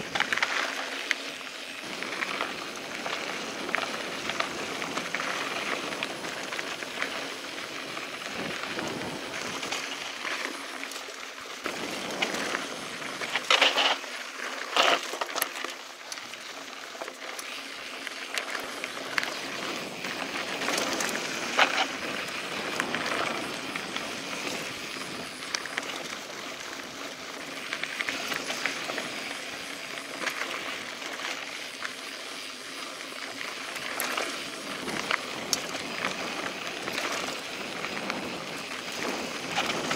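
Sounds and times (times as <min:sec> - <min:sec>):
bike rattling: 0:00.0 - 0:39.9
bike tyres crunching on gravel: 0:00.0 - 0:39.9.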